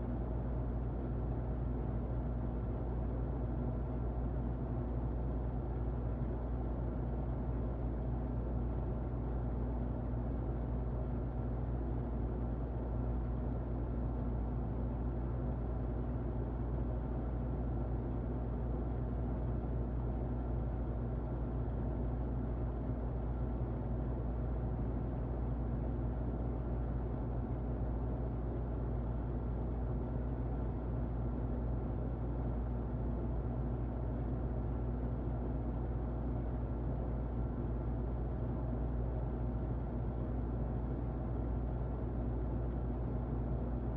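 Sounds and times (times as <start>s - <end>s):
faint motor hum: 0.0s - 43.9s
muffled electric fan running: 0.0s - 43.9s.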